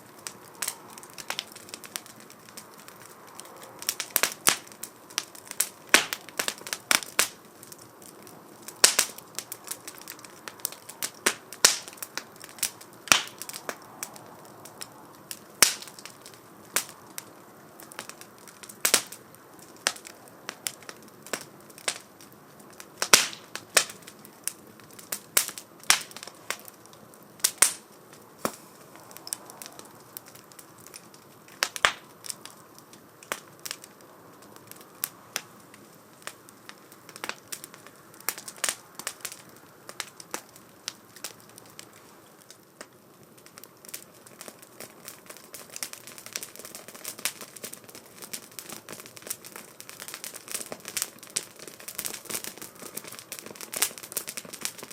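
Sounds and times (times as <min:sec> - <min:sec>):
faint steady hiss: 0:00.0 - 0:54.9
firewood crackling and popping: 0:00.0 - 0:54.9.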